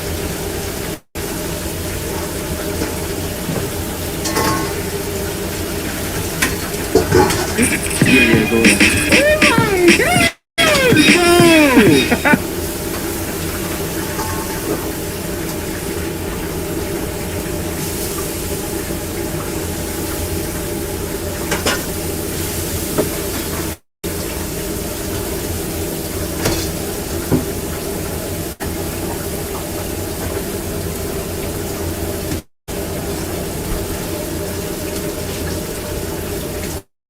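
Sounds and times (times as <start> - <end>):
kitchen hiss and hum: 0.0 - 36.9.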